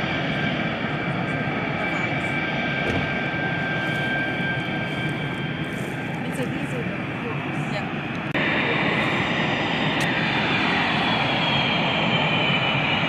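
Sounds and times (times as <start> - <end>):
jet engines taxiing with whine: 0.0 - 13.0.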